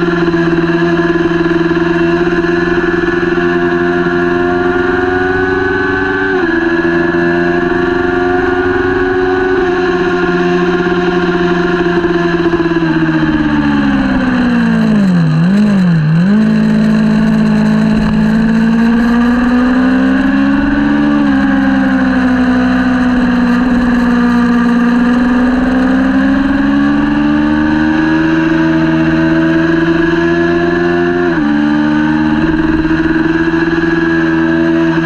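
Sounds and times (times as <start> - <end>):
motorcycle engine at racing revs: 0.0 - 35.0.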